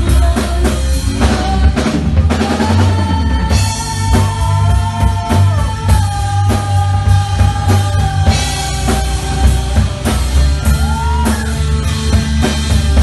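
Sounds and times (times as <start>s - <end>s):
drum kit beating: 0.0s - 13.0s
heavy bass: 0.0s - 13.0s.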